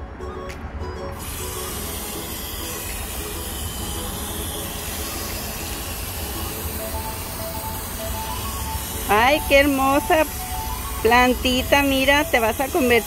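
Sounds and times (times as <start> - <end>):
hose spraying water on soil: 1.2 - 13.0.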